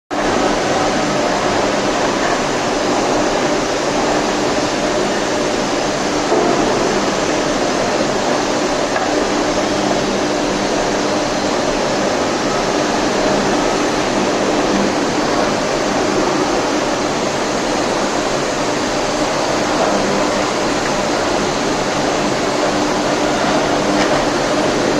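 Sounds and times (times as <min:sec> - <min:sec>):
arc furnace dense noise: 0:00.1 - 0:24.9.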